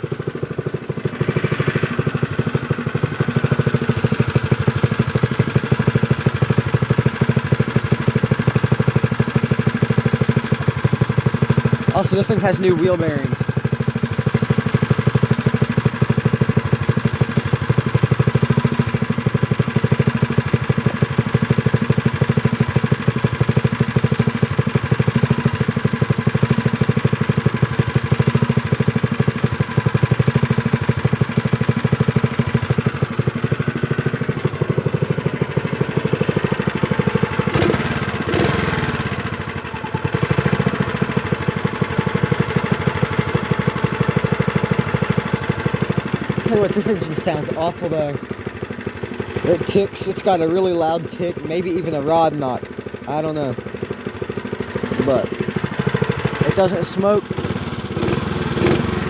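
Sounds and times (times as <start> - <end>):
engine running steadily: 0.0 - 59.0
loud engine tick: 0.0 - 59.0.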